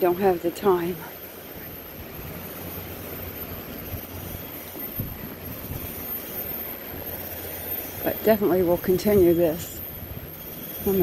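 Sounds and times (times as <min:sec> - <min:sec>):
sea surf: 0:00.0 - 0:11.0
wind on microphone: 0:01.6 - 0:11.0.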